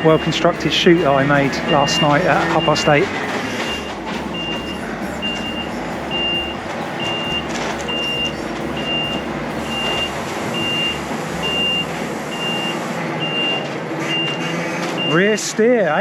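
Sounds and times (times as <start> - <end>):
lorry engine running: 0.0 - 15.1
reversing alarm beeps: 0.0 - 15.4.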